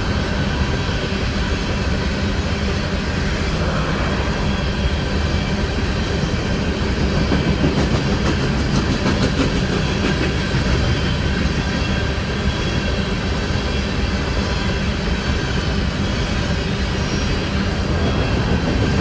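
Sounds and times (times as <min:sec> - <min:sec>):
train cars rumbling past: 0:00.0 - 0:19.0.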